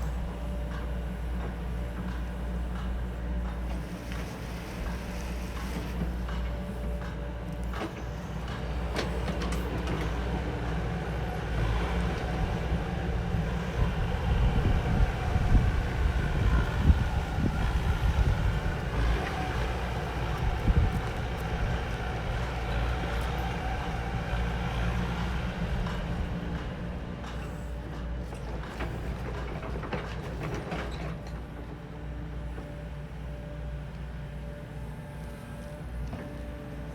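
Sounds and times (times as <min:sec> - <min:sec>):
diesel construction machine running: 0:00.0 - 0:36.9.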